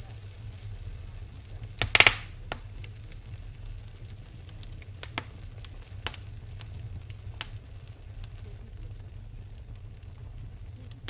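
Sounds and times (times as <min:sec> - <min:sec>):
low hum: 0:00.0 - 0:11.0
wood fire crackling: 0:00.0 - 0:11.0.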